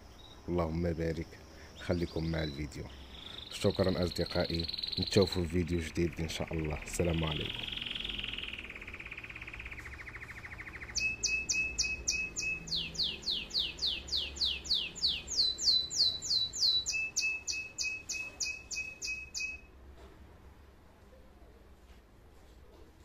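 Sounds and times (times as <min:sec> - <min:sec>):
canary singing trills: 0:00.0 - 0:19.7.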